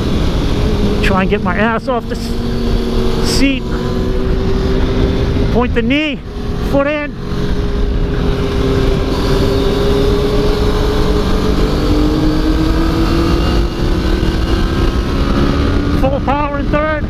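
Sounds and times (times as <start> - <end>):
motorcycle engine at speed: 0.0 - 17.0
wind rush on microphone: 0.0 - 17.0.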